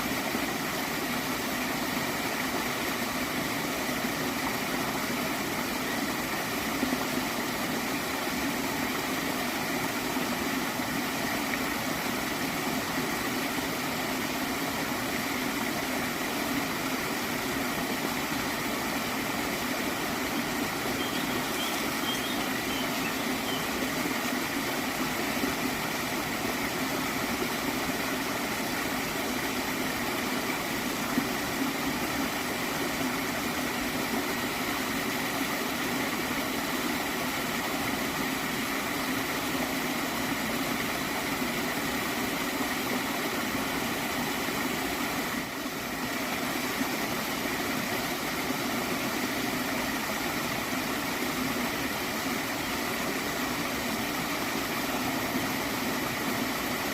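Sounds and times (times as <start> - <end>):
stream water gurgling: 0.0 - 56.9.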